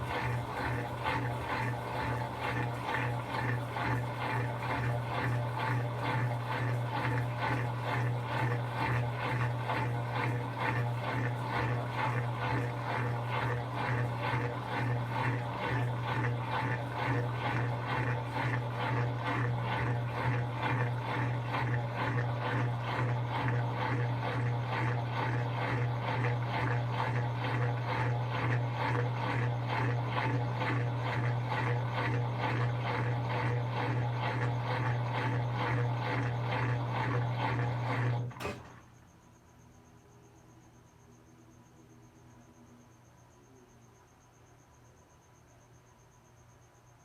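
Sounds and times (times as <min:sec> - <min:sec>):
washing machine running: 0:00.0 - 0:39.1.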